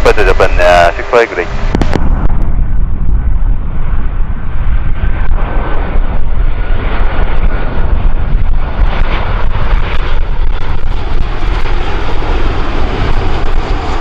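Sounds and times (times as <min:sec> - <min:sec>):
airliner engines roaring: 0:00.0 - 0:14.0.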